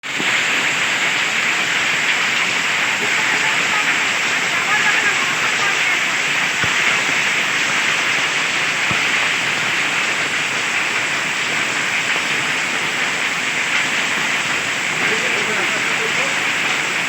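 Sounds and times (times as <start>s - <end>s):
hailstones striking surfaces: 1.5s - 17.0s.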